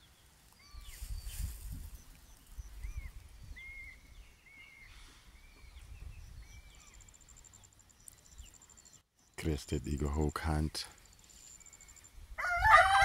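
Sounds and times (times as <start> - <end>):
faint birds chirping: 0.0 - 12.9.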